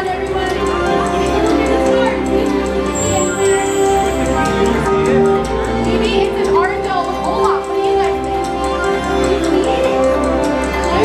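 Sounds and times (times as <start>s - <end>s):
soft melodic music: 0.0s - 11.0s.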